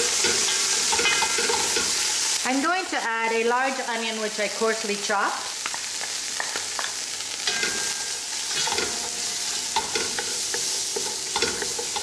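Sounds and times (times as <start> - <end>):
onion sizzling in a pot: 0.0 - 12.0.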